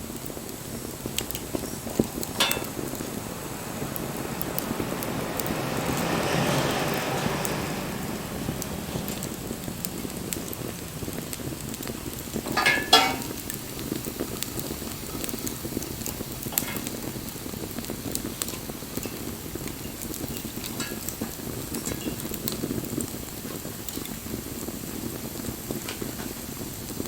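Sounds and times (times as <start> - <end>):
campfire burning: 0.0 - 27.0
fire crackles and pops: 0.0 - 27.0.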